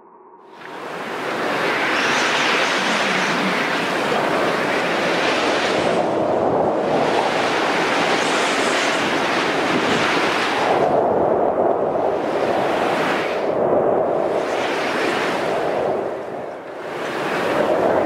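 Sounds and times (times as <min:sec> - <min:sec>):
ocean waves breaking: 0:00.5 - 0:11.0, 0:11.8 - 0:18.0.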